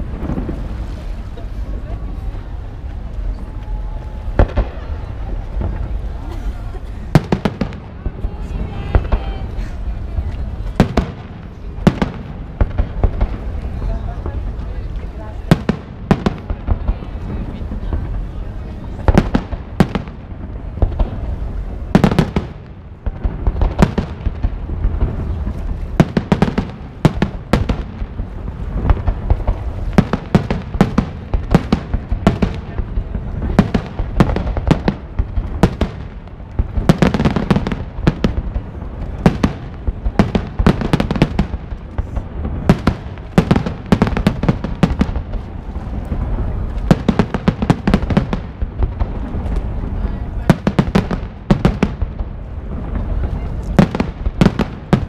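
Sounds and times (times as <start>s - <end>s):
deep rumble: 0.0s - 55.0s.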